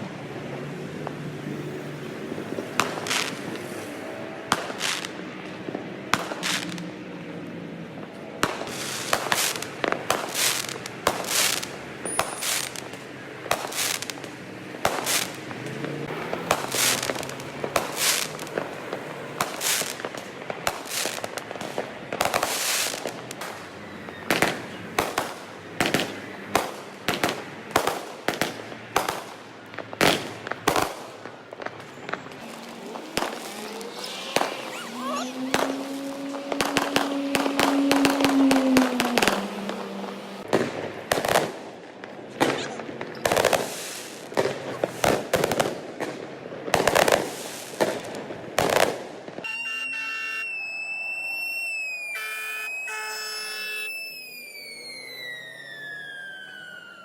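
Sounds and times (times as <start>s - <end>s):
fireworks sharp bangs: 0.9s - 57.0s.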